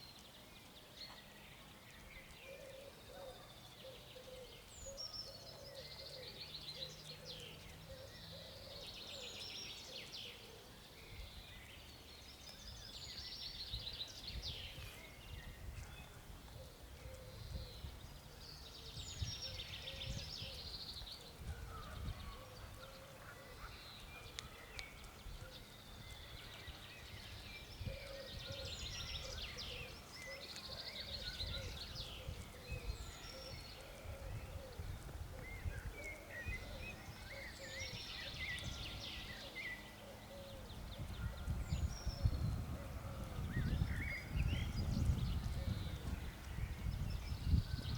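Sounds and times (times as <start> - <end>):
songbirds trilling and warbling: 0.0 - 47.9.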